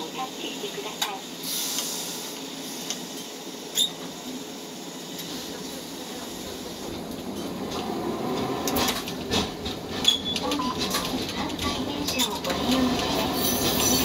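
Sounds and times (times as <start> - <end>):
streetcar rumbling on tracks: 0.0 - 14.0.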